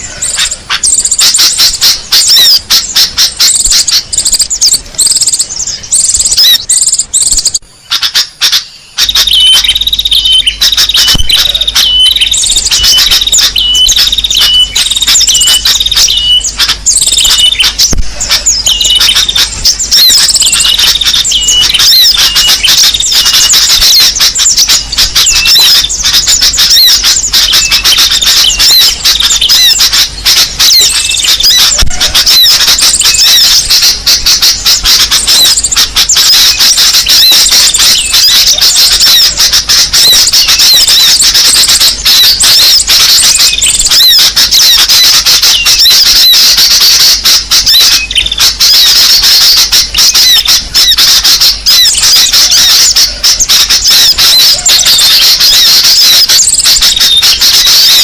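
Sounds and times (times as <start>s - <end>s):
steady low hum: 0.0s - 55.5s
songbirds chirping: 0.0s - 58.0s.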